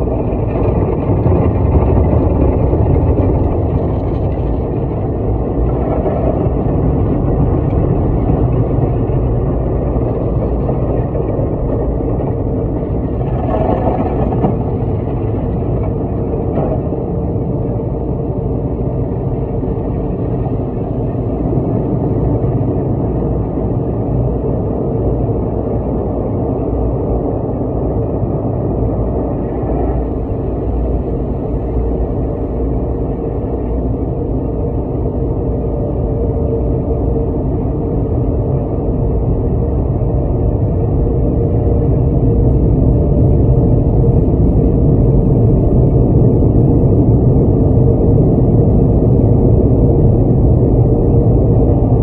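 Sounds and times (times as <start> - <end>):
car wash water jets: 0.0 - 52.0.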